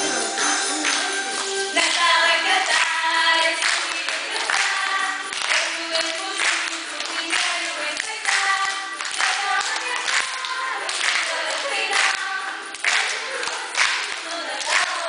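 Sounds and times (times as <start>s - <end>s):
children and adults singing: 0.0s - 15.0s.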